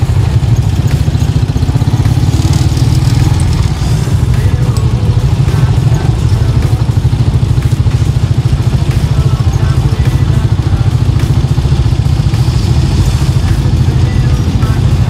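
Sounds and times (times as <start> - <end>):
small engine throbbing: 0.0 - 15.0.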